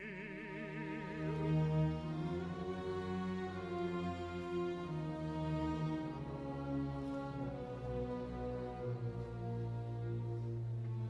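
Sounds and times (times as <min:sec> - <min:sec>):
slow orchestral strings: 0:00.0 - 0:11.0.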